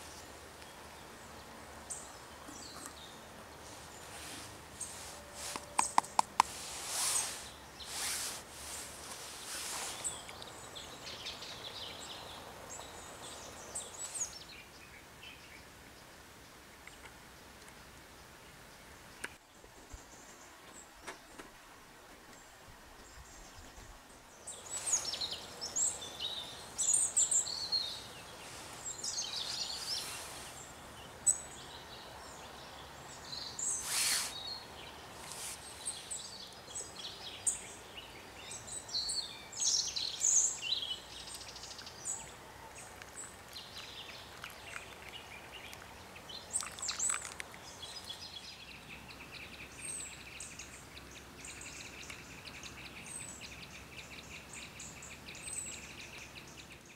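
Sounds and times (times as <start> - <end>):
birds chirping: 0.0 - 17.5, 22.3 - 56.9
background hiss: 0.0 - 56.9.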